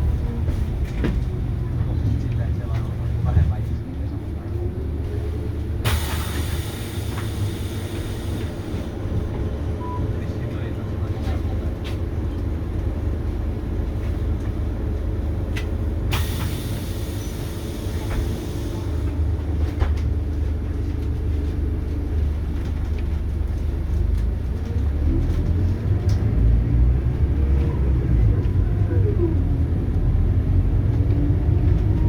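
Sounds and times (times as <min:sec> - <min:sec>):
bus diesel engine rumbling: 0:00.0 - 0:32.0.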